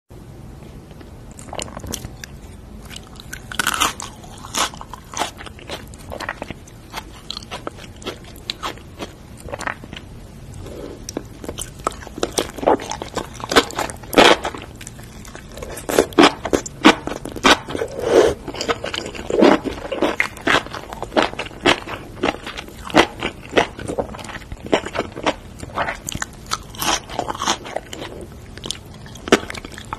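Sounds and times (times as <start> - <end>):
crunching bites: 1.3 - 10.0, 11.1 - 29.9
wet chewing: 1.3 - 10.0, 11.0 - 29.9.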